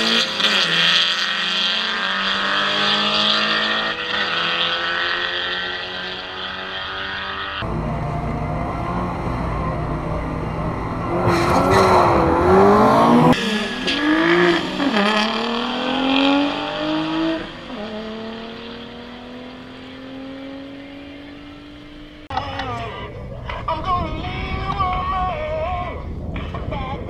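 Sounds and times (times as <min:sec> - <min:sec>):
car accelerating away with gear changes: 0:00.0 - 0:22.3
drag race car engines revving: 0:00.0 - 0:23.7.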